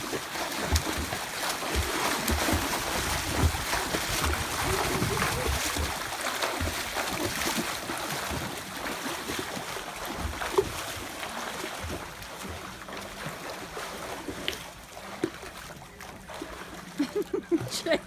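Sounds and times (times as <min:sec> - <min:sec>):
swimmers splashing: 0:00.0 - 0:18.0.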